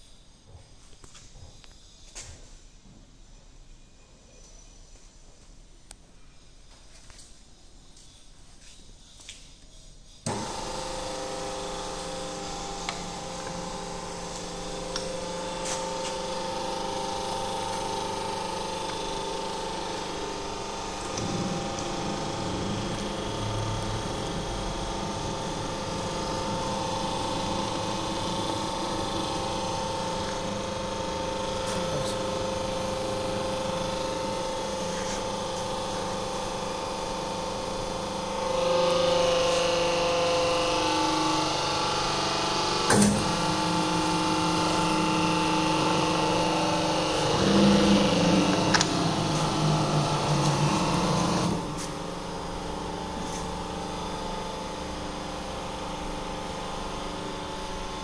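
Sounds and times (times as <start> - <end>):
hose crimping machine running: 10.2 - 58.0.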